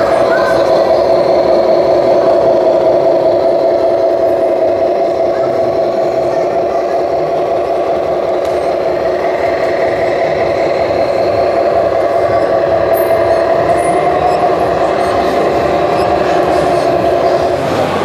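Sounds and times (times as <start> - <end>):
model truck motor whining: 0.0 - 18.0.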